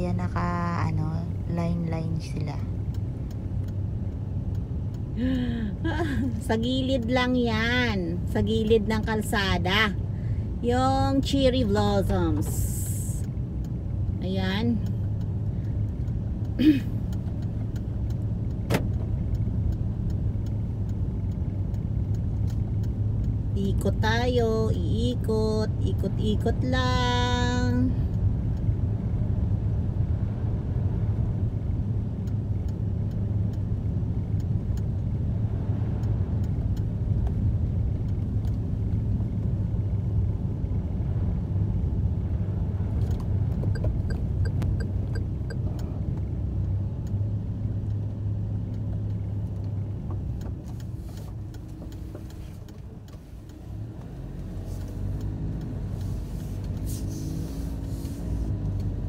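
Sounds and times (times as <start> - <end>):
car engine and tyre rumble: 0.0 - 59.0
light regular ticks: 1.2 - 59.0.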